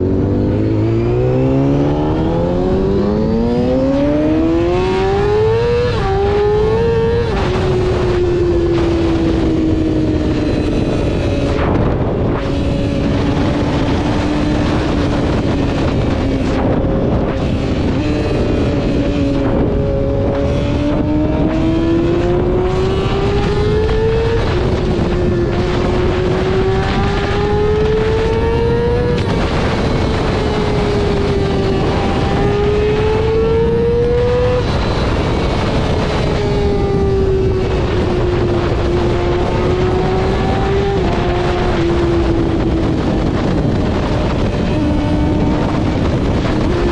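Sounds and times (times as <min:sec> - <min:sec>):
motorcycle engine revving high: 0:00.0 - 0:46.9.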